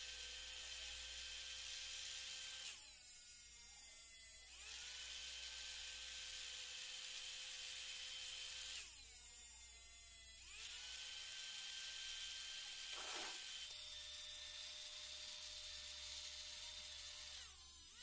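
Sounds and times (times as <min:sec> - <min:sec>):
small electric motor whine: 0:00.0 - 0:18.0.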